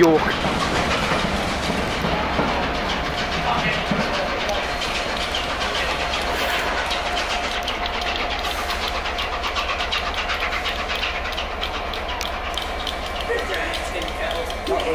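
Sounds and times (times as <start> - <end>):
coaches rolling: 0.0 - 14.9
rush of steam: 0.0 - 14.9
steam locomotive exhaust beats: 0.0 - 14.9.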